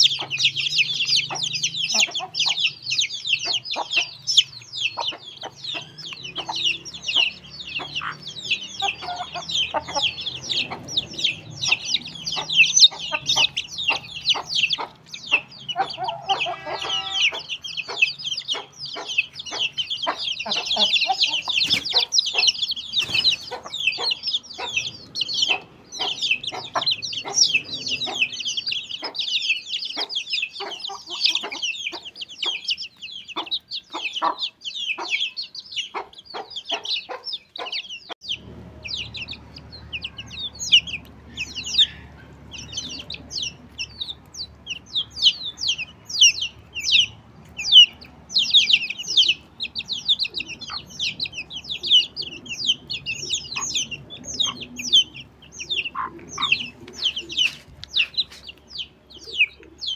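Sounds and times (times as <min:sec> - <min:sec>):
chickens clucking low: 0:00.0 - 0:59.9
chicks peeping: 0:00.0 - 0:59.9
drawn-out adult bird call: 0:00.0 - 0:59.9.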